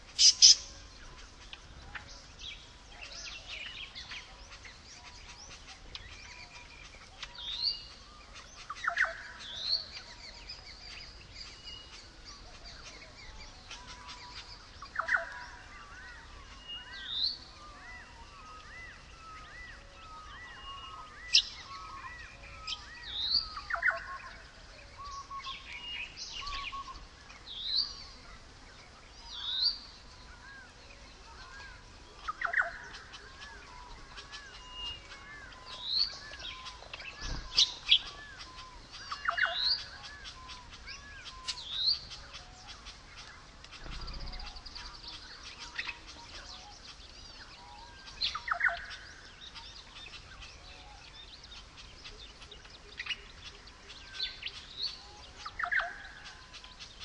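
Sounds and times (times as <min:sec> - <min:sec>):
sharp bird calls: 0:00.0 - 0:57.0
small bird chirps: 0:00.0 - 0:57.0.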